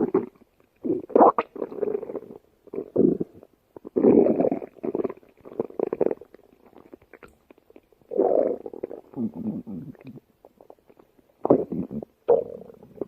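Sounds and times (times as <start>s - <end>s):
stomach growling and gurgling: 0.0s - 13.0s.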